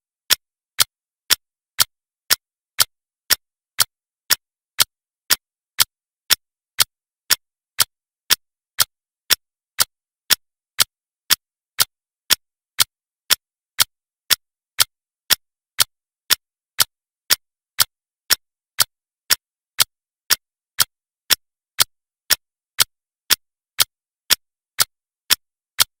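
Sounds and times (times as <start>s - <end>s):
clock ticking: 0.3s - 26.0s.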